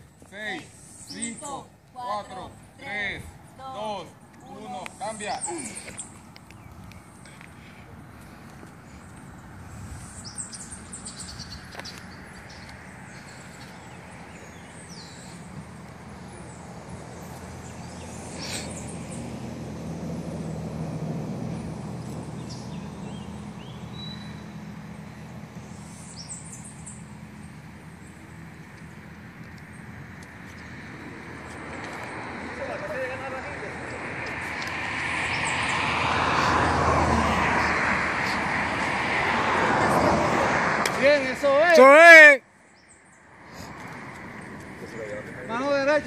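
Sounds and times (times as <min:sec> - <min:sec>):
birds chirping: 0:00.0 - 0:46.0
vehicle passing: 0:00.0 - 0:46.0.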